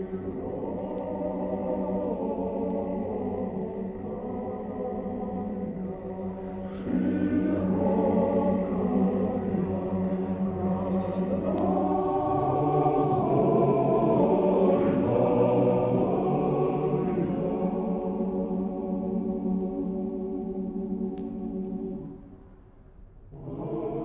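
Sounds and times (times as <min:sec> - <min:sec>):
choir chanting held chords: 0:00.0 - 0:22.3, 0:23.3 - 0:24.0.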